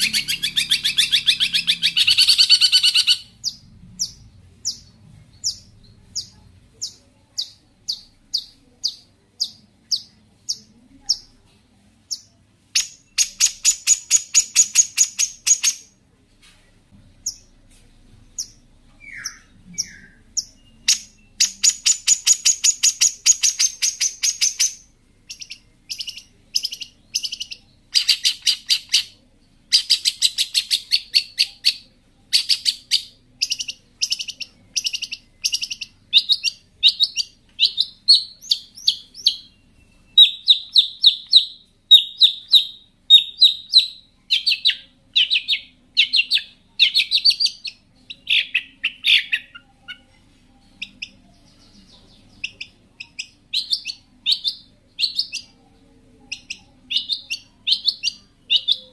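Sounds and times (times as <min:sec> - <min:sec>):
bird singing trills and chatter: 0:00.0 - 0:11.4, 0:12.1 - 0:15.9, 0:18.4 - 0:55.7, 0:56.3 - 0:58.9.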